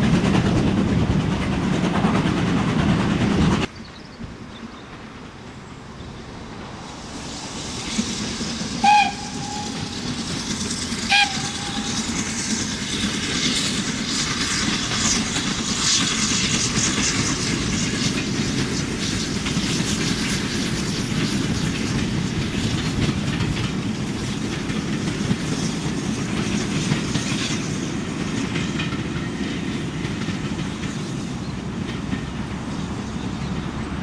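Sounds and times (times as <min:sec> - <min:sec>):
wheels clicking over rail joints: 0:00.0 - 0:07.0, 0:07.8 - 0:34.0
train coaches rolling past: 0:00.0 - 0:34.0.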